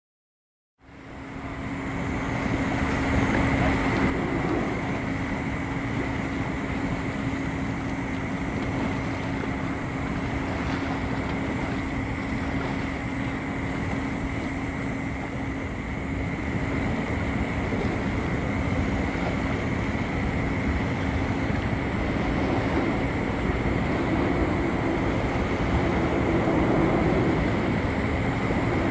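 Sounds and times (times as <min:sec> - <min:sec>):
ship engine droning: 0:00.8 - 0:28.9
wind on microphone: 0:01.1 - 0:28.9
rushing noise: 0:01.4 - 0:28.9.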